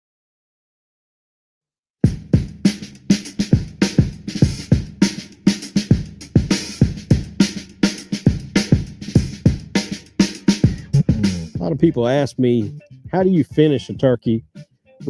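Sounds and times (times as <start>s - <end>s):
intro music with drum beat: 2.0s - 14.7s.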